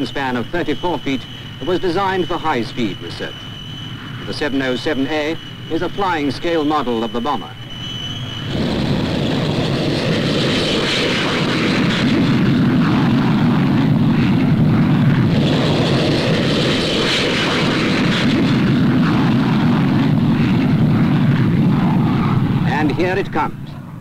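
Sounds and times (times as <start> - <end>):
jet engine at takeoff power: 0.0 - 24.0.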